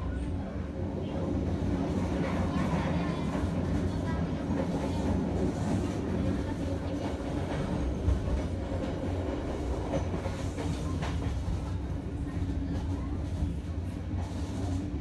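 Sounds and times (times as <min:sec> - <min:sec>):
train wheels rumbling on rails: 0:00.1 - 0:15.0.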